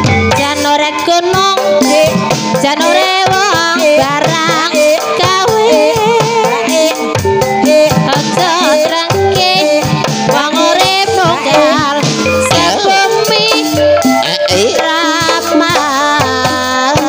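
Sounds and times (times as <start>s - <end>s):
hand drum strokes: 0.0s - 17.0s
metallophone notes: 0.0s - 17.0s
person singing with vibrato: 0.0s - 17.0s.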